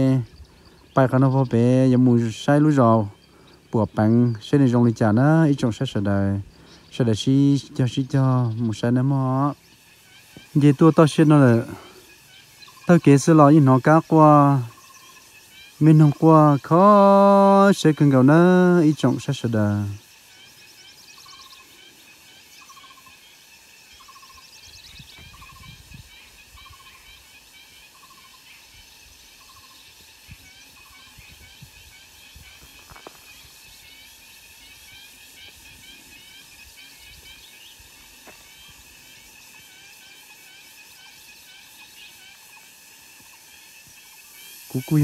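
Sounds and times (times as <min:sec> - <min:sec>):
birds chirping: 0:00.0 - 0:45.0
insects droning: 0:00.0 - 0:45.0.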